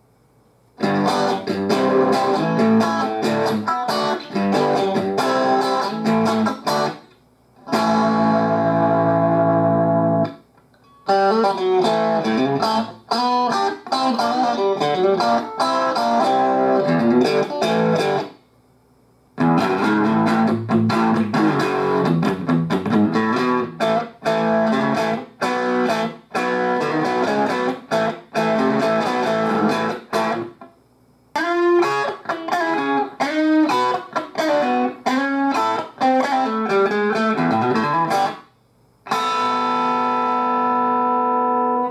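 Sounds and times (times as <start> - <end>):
electric guitar playing: 0.8 - 10.4, 11.1 - 18.3, 19.4 - 30.6, 31.4 - 38.4, 39.1 - 41.9.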